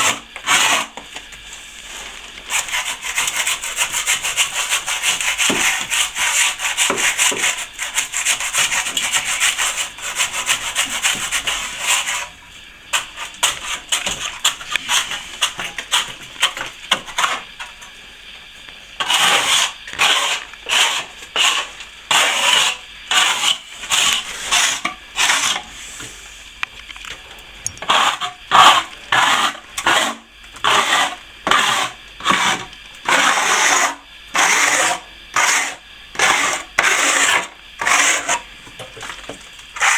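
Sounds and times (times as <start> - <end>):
plastering tool scraping plaster: 0.0 - 12.3, 12.9 - 17.7, 19.0 - 26.2, 27.8 - 39.9.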